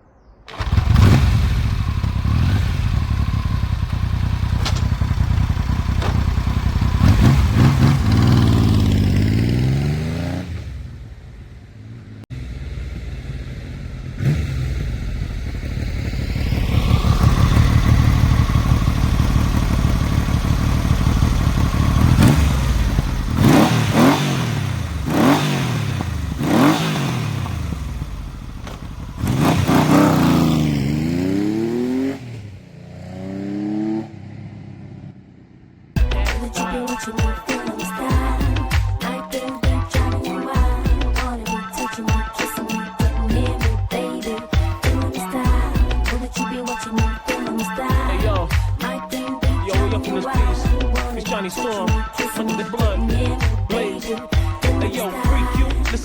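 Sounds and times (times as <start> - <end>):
motorcycle engine idling and revving: 0.5 - 56.0.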